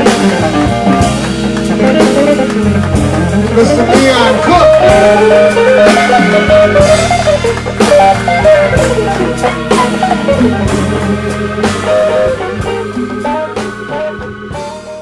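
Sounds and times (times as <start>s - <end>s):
bass: 0.0s - 15.0s
blues guitar: 0.0s - 15.0s
drums: 0.0s - 15.0s.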